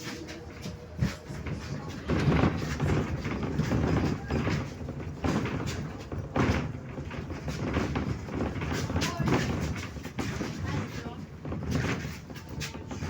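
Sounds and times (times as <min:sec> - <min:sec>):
bus body rattling knocks: 0:00.0 - 0:13.0
bus engine and road rumble: 0:00.0 - 0:13.0.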